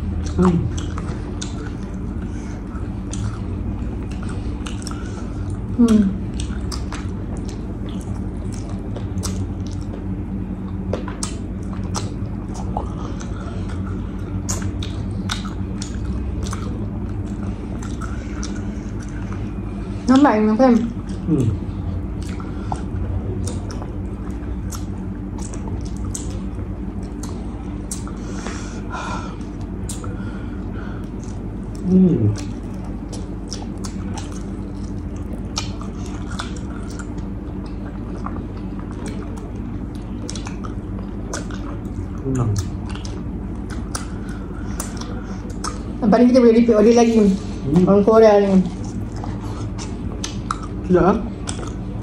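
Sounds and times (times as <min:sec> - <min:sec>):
chewing and crunching chicken: 0:00.0 - 0:52.0
low hum: 0:00.0 - 0:52.0.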